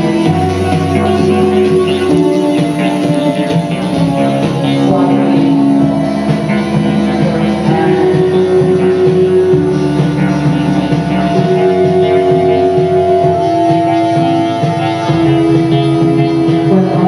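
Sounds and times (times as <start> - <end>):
live band droning music: 0.0 - 17.0.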